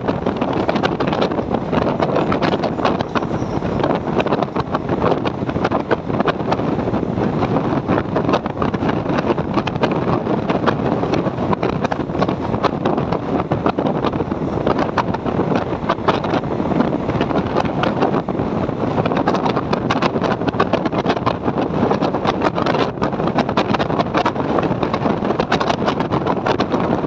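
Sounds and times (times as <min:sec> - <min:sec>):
train running noise: 0:00.0 - 0:27.0
wheels clicking and rattling: 0:00.0 - 0:27.0
wind on microphone: 0:00.0 - 0:27.0.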